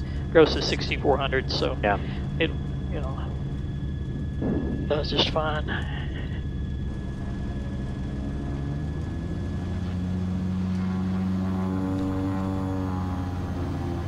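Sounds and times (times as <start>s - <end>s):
aircraft piston engines droning: 0.0s - 14.0s.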